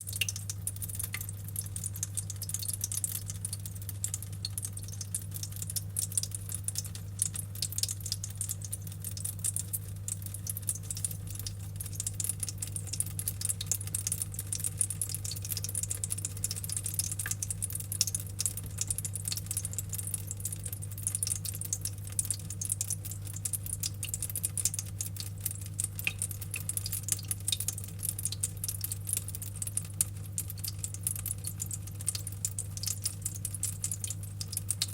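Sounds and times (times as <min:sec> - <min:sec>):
water dripping: 0:00.0 - 0:34.9.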